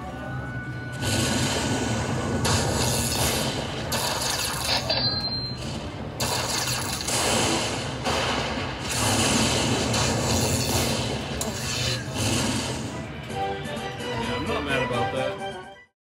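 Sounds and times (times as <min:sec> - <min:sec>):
game music: 0:00.0 - 0:15.9
slot machine reels whirring and ticking: 0:00.4 - 0:15.7.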